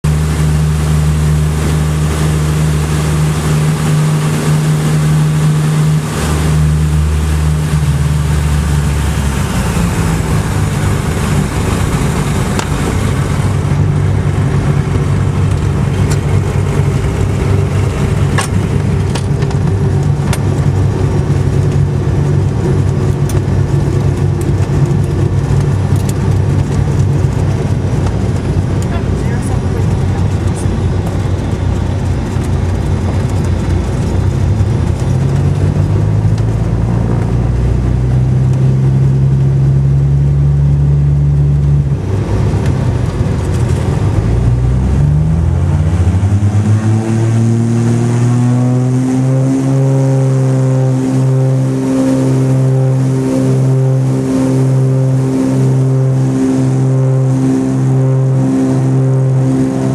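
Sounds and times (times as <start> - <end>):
propeller plane engine running: 0.0 - 59.9.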